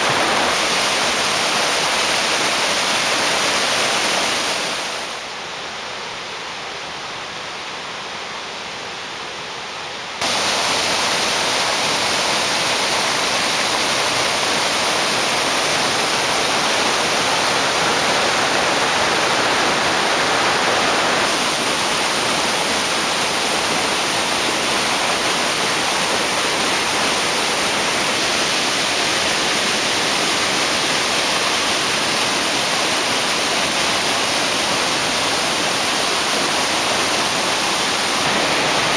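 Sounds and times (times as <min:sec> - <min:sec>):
water rushing over rocks: 0:00.0 - 0:05.4, 0:10.2 - 0:38.9.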